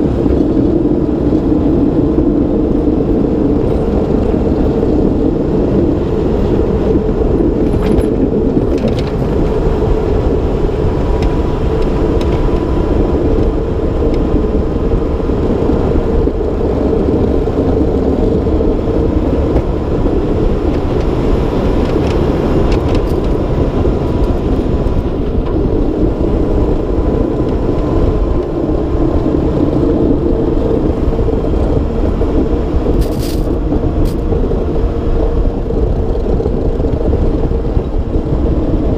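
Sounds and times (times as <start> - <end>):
truck diesel engine rumbling: 0.0 - 38.9.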